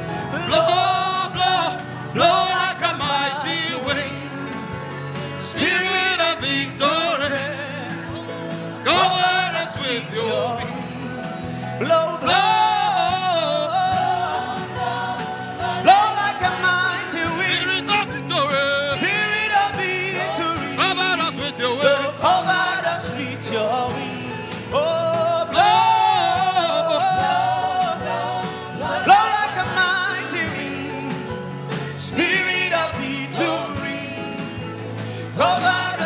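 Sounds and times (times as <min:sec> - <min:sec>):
instrumental backing: 0:00.0 - 0:36.0.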